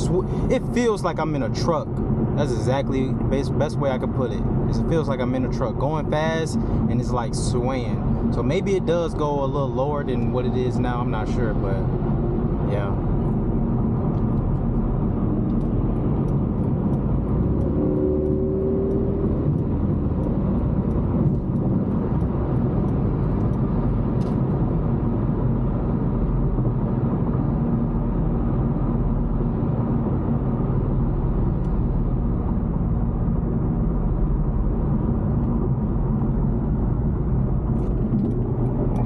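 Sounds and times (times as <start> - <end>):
vehicle road and engine rumble: 0.0 - 39.0.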